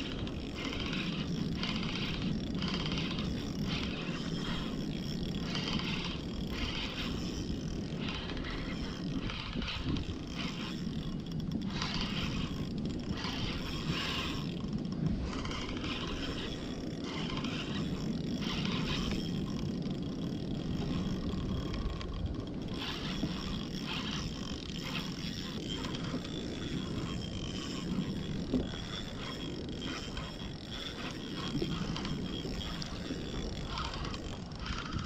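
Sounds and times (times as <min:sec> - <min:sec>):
water lapping against kayak hull: 0:00.0 - 0:35.0
wind on microphone: 0:00.0 - 0:35.0.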